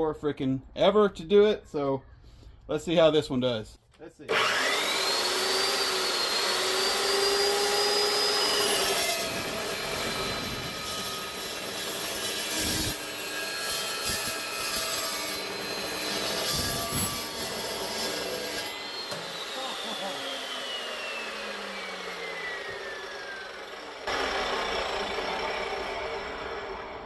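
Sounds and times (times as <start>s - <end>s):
chop saw motor whine: 4.3s - 27.0s
saw blade cutting steel: 4.3s - 27.0s.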